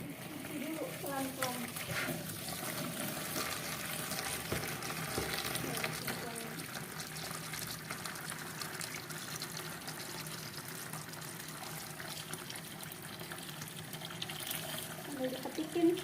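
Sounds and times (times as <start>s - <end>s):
running water: 0.0s - 16.0s
small splashes and clicks: 1.1s - 2.1s, 3.2s - 15.6s.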